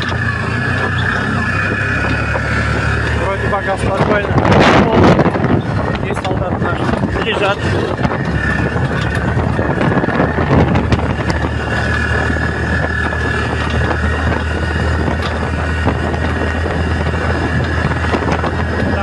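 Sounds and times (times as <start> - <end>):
road noise on dirt road: 0.0 - 19.0
scattered knocks: 0.0 - 19.0
vehicle engine: 0.0 - 19.0
wind on microphone: 0.0 - 19.0.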